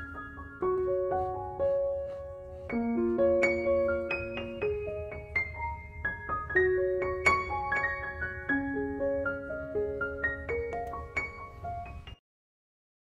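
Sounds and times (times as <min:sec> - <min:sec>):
piano melody: 0:00.0 - 0:12.2.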